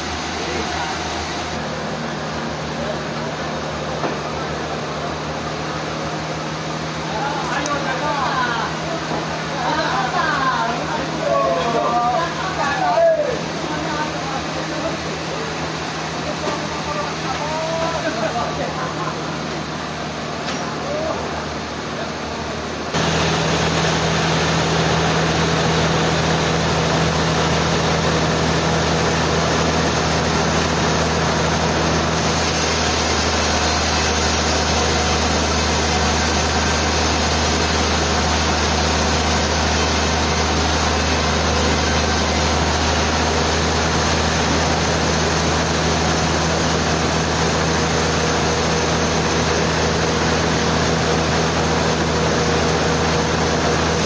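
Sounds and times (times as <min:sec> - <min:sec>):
sawmill machinery drone: 0:00.0 - 0:54.0.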